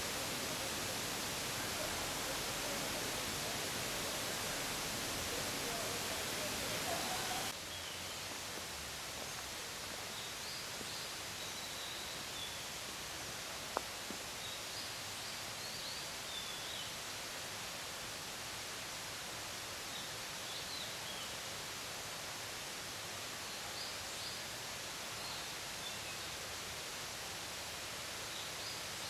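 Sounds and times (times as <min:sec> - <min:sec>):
steady forest hiss: 0:00.0 - 0:29.0.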